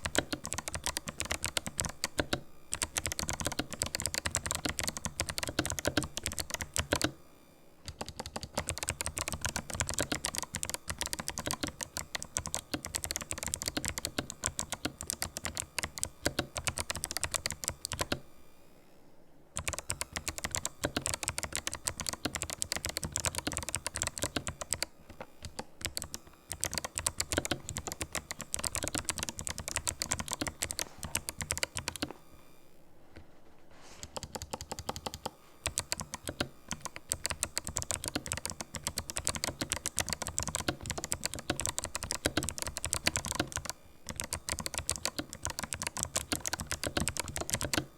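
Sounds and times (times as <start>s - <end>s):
mechanical keyboard typing: 0.0s - 7.2s, 7.9s - 18.2s, 19.6s - 32.2s, 34.0s - 47.9s.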